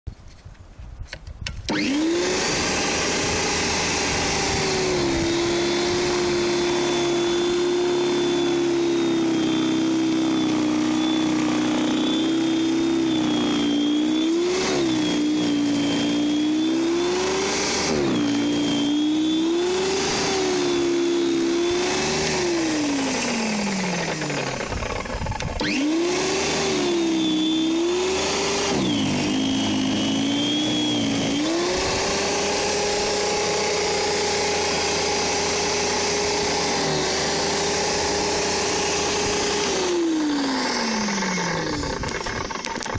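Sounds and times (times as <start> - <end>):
electric snow thrower motor whine: 1.7 - 42.9.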